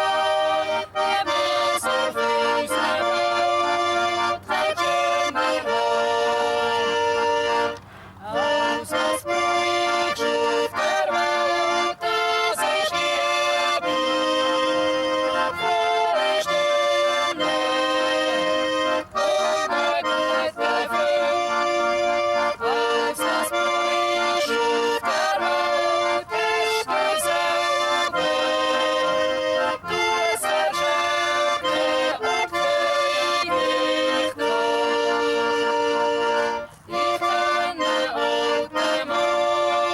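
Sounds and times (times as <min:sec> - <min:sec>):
accordion playing chords: 0:00.0 - 0:39.9.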